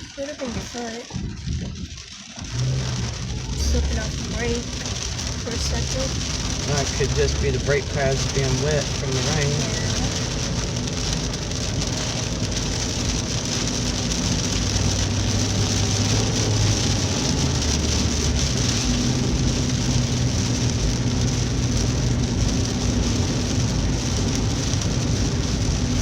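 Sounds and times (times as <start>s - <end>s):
low car hum: 0.0s - 26.0s
rain on a car roof: 0.0s - 26.0s.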